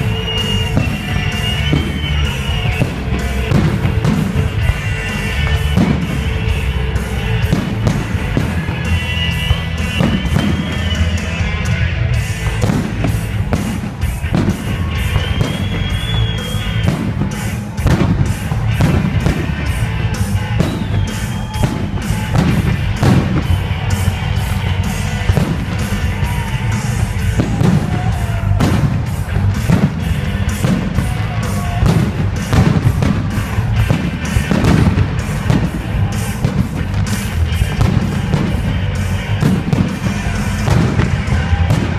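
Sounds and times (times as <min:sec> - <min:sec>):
fireworks bangs: 0:00.0 - 0:41.9
fireworks whistling: 0:00.0 - 0:41.9
loud music: 0:00.0 - 0:41.9.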